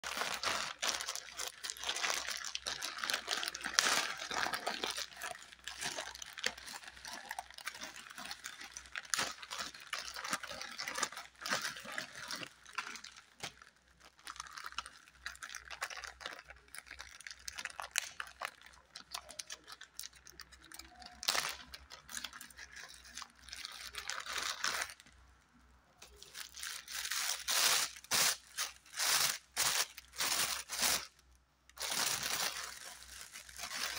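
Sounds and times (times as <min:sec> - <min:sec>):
plastic bags crinkling: 0:00.0 - 0:25.1, 0:26.0 - 0:33.9.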